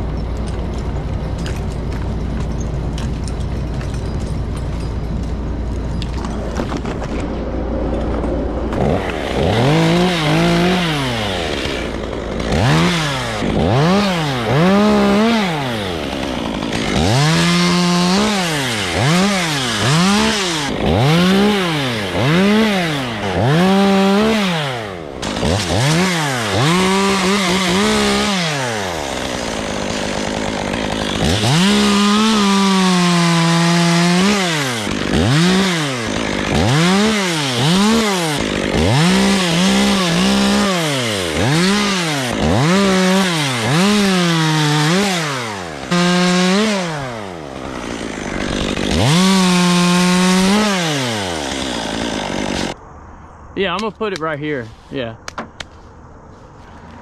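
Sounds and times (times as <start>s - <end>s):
chainsaw revving: 6.2s - 52.8s.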